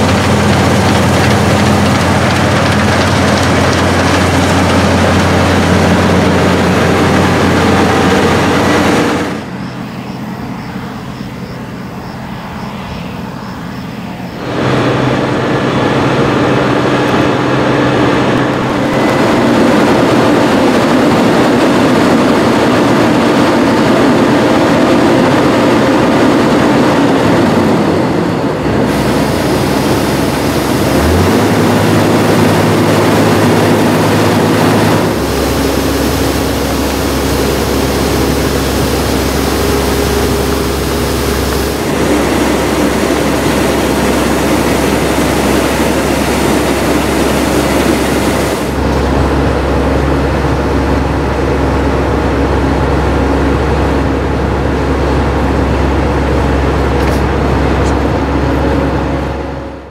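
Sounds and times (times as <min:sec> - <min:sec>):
combine harvester engine and machinery: 0:00.0 - 0:59.9
steady low hum: 0:00.0 - 0:59.9.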